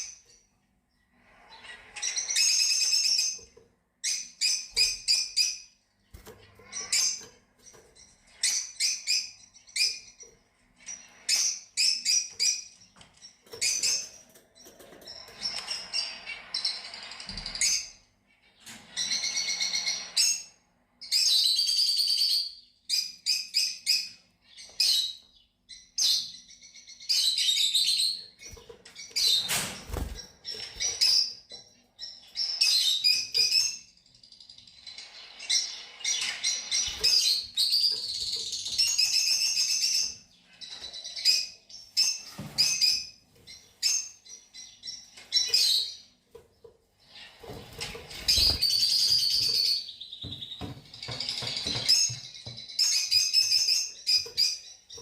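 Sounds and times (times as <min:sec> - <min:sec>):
lovebirds chirping and twittering: 0:00.0 - 0:55.0.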